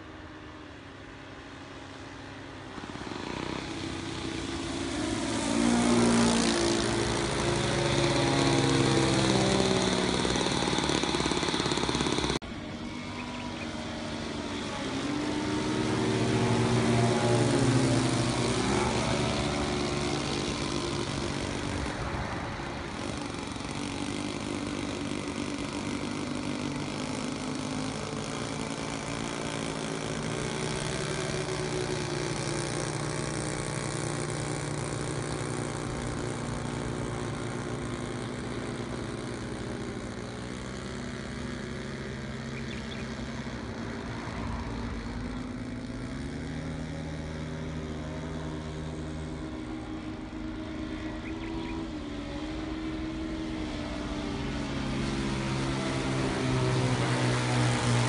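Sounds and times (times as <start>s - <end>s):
model propeller planes droning: 0.0s - 58.0s.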